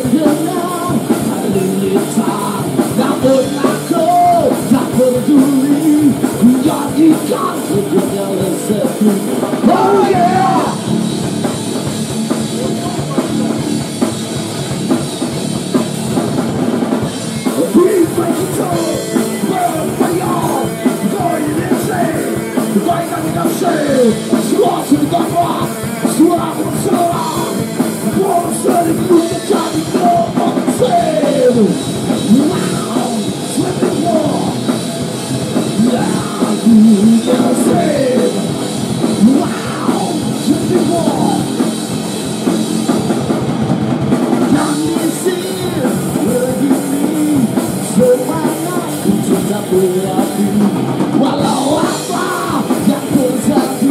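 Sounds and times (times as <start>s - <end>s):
drum kit: 0.0s - 53.9s
rock band playing live: 0.0s - 53.9s.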